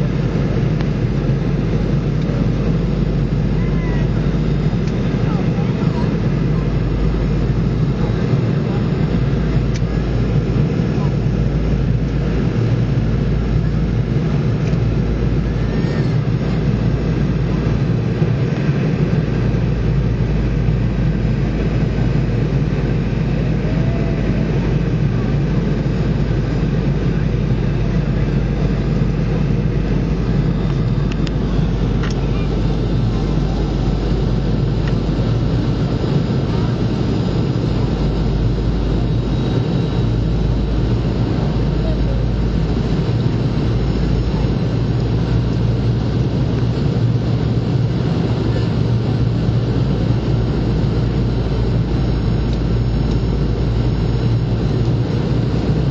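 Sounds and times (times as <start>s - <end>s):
airplane cabin roar in flight: 0.0s - 55.9s.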